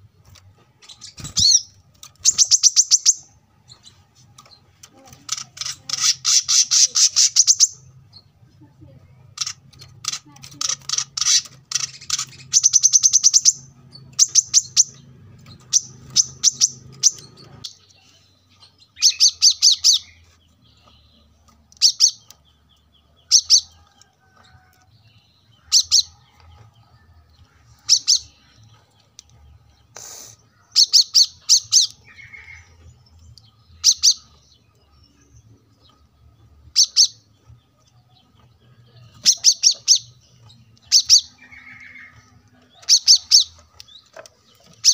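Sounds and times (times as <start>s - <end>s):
bird chirping and trilling: 0.2s - 44.9s.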